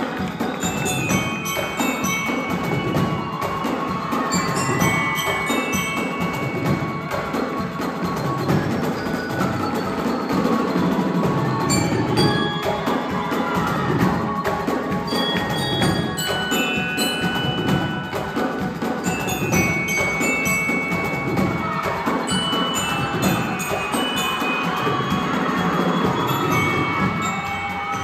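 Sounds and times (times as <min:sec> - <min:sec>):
glockenspiel melody: 0:00.0 - 0:28.0
marching drums: 0:00.0 - 0:28.0.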